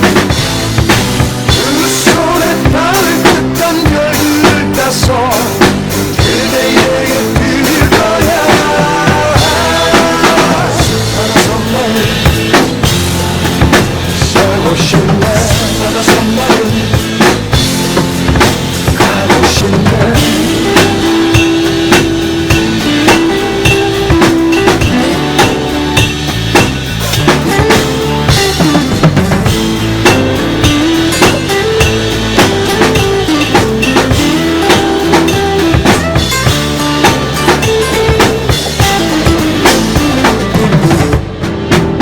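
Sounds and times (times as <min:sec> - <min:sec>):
drum kit playing: 0:00.0 - 0:42.0
pop backing track: 0:00.0 - 0:42.0.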